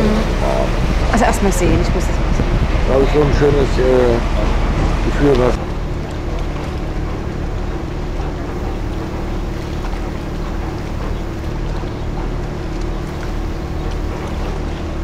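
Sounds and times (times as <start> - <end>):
boat engine low hum: 0.0 - 15.0.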